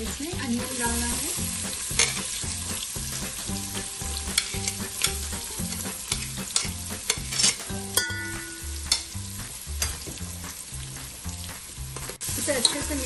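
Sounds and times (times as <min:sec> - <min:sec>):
oil crackling and spitting: 0:00.0 - 0:07.7, 0:08.8 - 0:13.0
onion sizzling in hot oil: 0:00.0 - 0:13.0.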